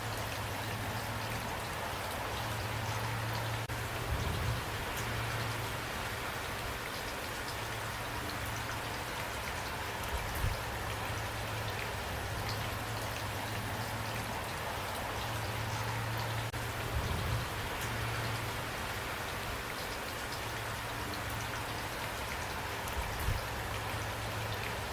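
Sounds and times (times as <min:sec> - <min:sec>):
raindrops ticking on surface: 0:00.0 - 0:24.9
steady rain: 0:00.0 - 0:24.9.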